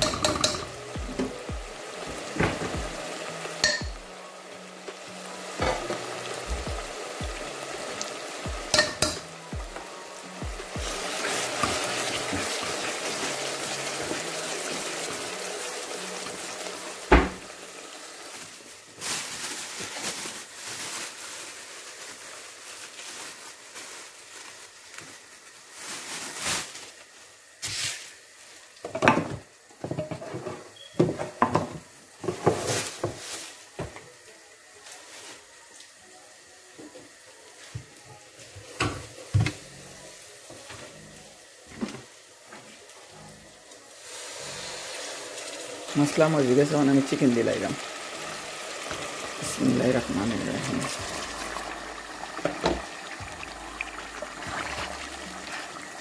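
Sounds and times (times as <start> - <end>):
masala sizzling in oil: 0.0 - 30.4, 31.4 - 56.0.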